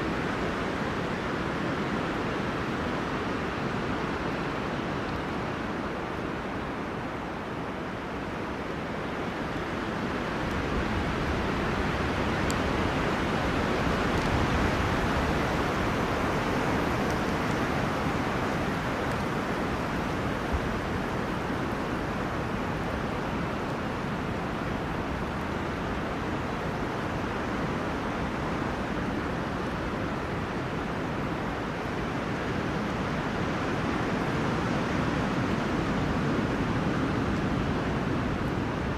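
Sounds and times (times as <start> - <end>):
wind through forest trees: 0.0 - 38.9.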